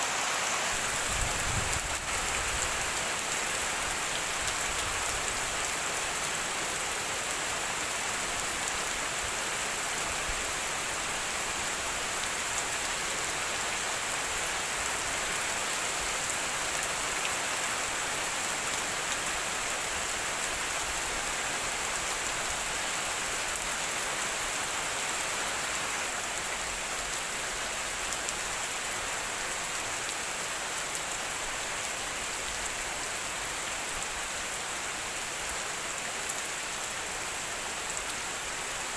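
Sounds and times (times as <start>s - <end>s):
rain pattering on a surface: 0.1s - 38.9s.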